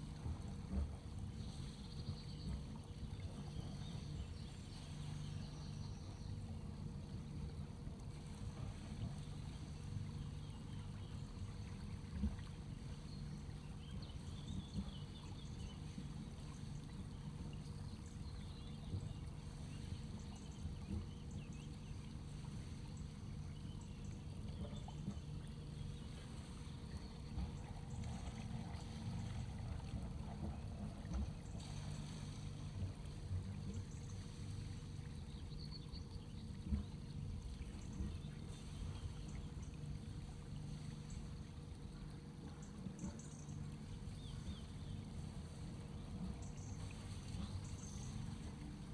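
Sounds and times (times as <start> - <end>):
boat engine hum: 0.0 - 48.9
water splashing along hull: 0.0 - 48.9.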